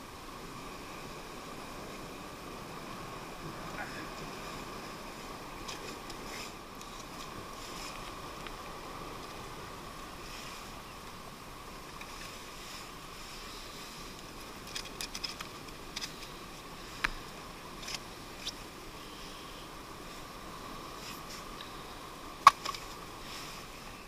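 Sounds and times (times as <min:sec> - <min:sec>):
sea and wind noise: 0:00.0 - 0:24.0.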